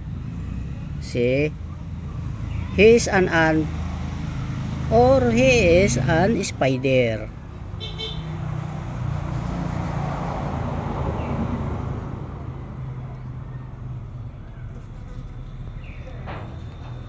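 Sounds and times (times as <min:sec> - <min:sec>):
motor vehicle passing: 0:00.0 - 0:17.0
steady low traffic rumble: 0:00.0 - 0:17.0.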